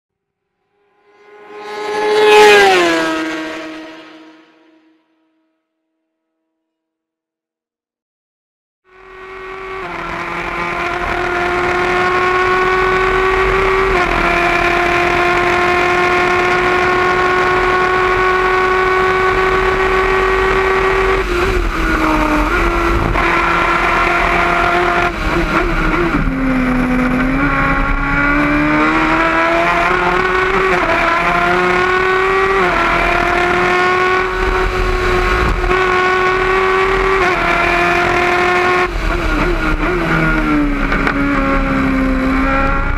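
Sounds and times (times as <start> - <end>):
race car engine at high revs: 1.2 - 4.5, 8.9 - 42.9.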